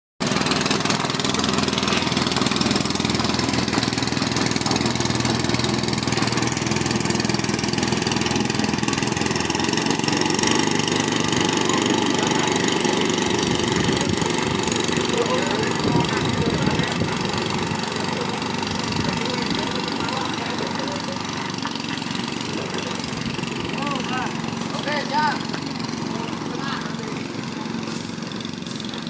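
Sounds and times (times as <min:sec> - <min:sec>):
small boat engine running: 0:00.2 - 0:29.0.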